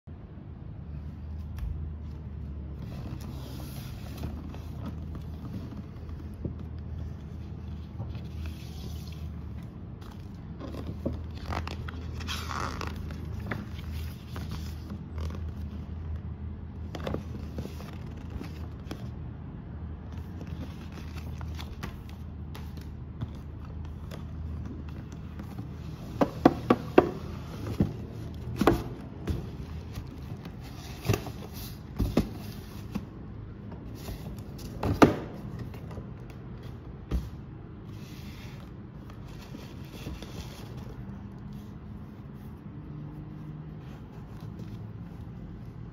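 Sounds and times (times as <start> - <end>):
paper and cardboard rustling: 2.6 - 16.0, 20.0 - 45.9.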